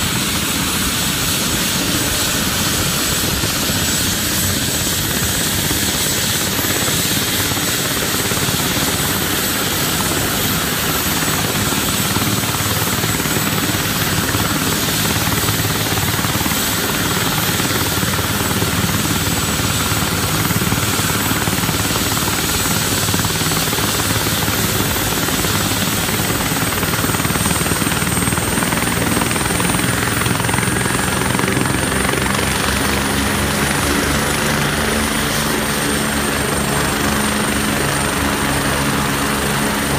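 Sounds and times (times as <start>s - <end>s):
helicopter rotor noise: 0.0s - 39.9s
helicopter turbine whine: 0.0s - 39.9s.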